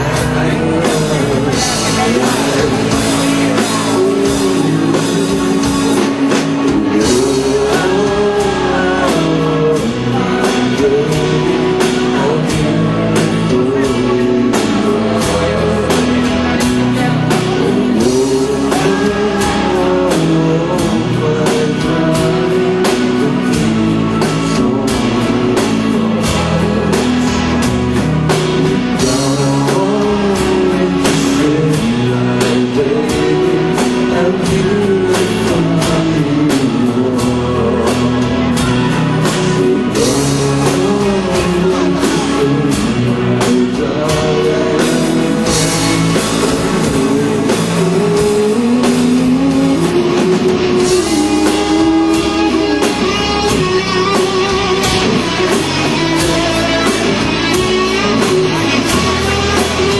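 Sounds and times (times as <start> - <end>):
live rock band playing: 0.0 - 59.9
male lead vocal: 0.0 - 59.9.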